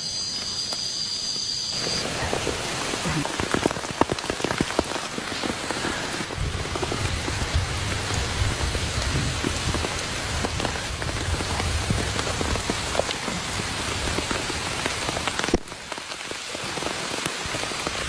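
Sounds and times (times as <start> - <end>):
heavy rain falling: 1.7 - 18.0
raindrops ticking on a surface: 1.8 - 18.0.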